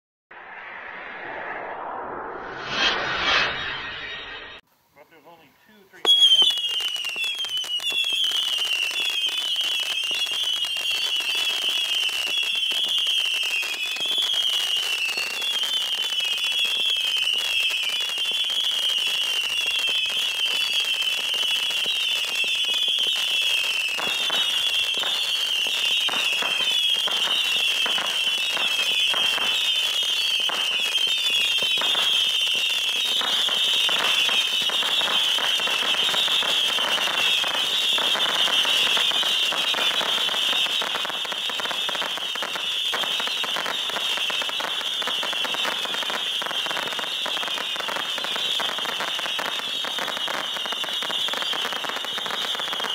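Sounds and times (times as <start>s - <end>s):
firework whistles: 0.3s - 5.1s, 6.0s - 52.9s
firework pops and crackling: 6.0s - 52.9s.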